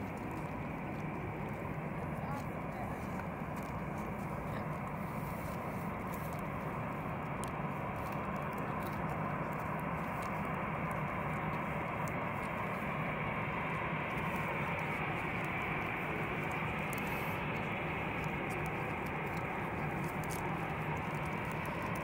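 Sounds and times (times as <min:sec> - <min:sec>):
jet engines idling: 0:00.0 - 0:22.0.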